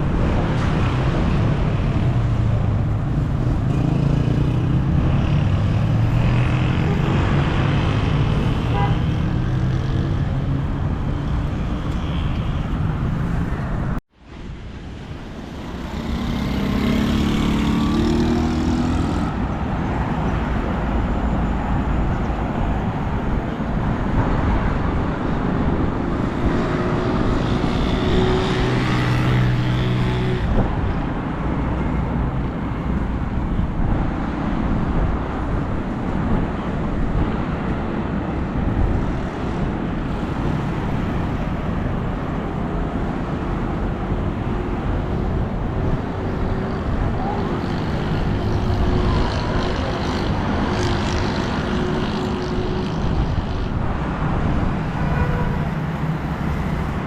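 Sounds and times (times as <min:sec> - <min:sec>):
car engines passing: 0:00.0 - 0:57.0.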